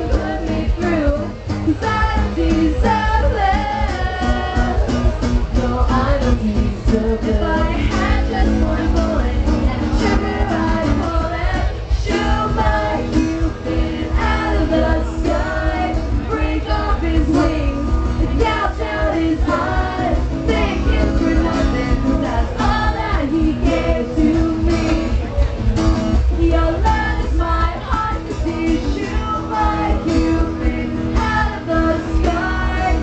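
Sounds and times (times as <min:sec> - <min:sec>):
lead vocal singing: 0:00.0 - 0:25.5, 0:26.1 - 0:33.0
rock band playing live: 0:00.0 - 0:33.0.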